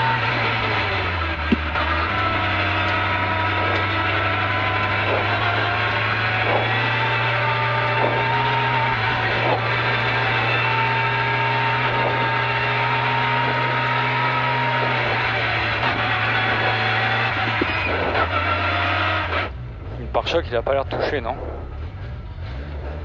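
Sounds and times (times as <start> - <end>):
car engine running inside cabin: 0.0 - 23.0.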